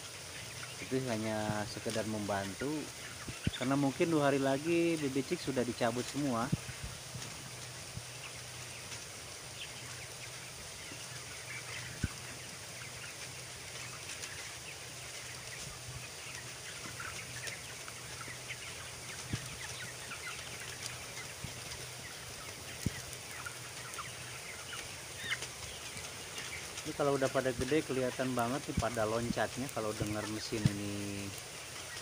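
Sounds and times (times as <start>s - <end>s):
chickens peeping and chirping: 0.0s - 32.0s.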